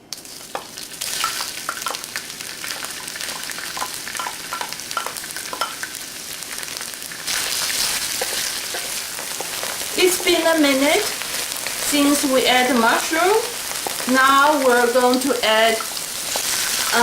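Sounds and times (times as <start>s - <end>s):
mushrooms sizzling in hot oil: 0.0s - 17.0s
oil crackling spatters: 0.0s - 17.0s.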